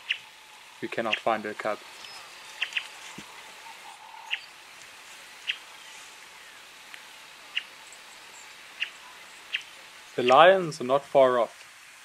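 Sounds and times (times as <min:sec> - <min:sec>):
birds chirping: 0:00.0 - 0:11.0
faint steady hiss: 0:00.0 - 0:12.0.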